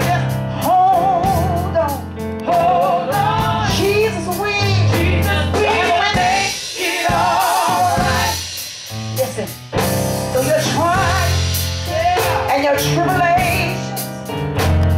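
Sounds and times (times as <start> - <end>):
woman singing with vibrato: 0.0 - 8.4, 10.4 - 13.9
drum kit: 0.0 - 14.9.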